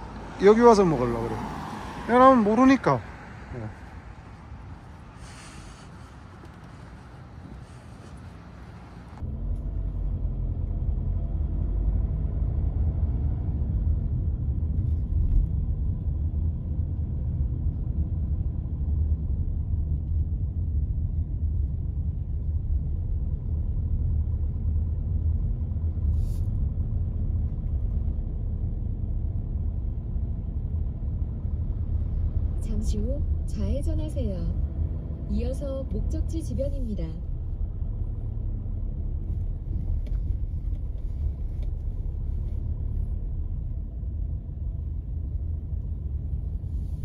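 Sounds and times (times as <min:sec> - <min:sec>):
car engine rumble from inside: 0:00.0 - 0:47.0.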